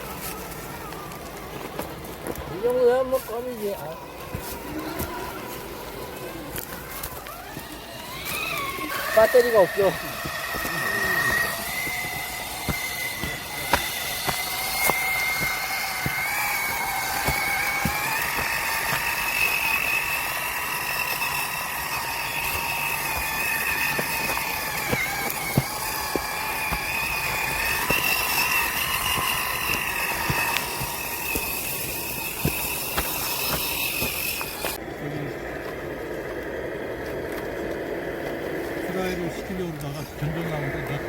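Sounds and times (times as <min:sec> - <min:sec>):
electric motor and gearbox whining: 0:00.0 - 0:41.0.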